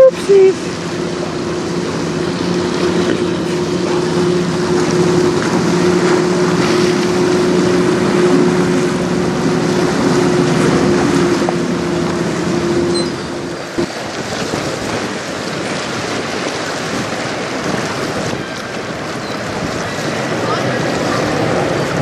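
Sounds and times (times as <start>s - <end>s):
boat engine humming: 0.0s - 22.0s
choppy water: 0.0s - 22.0s.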